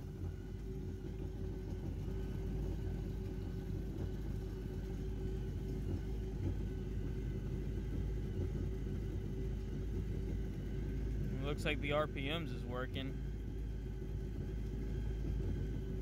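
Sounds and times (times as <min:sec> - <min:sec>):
jet ski engine idling: 0:00.0 - 0:16.0.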